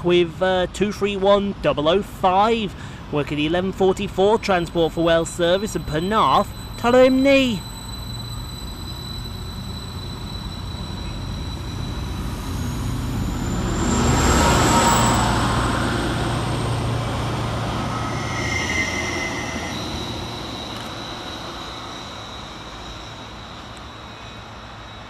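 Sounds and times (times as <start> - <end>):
diesel train rumble accelerating: 0.0 - 25.0
high whine rising in pitch: 4.2 - 25.0.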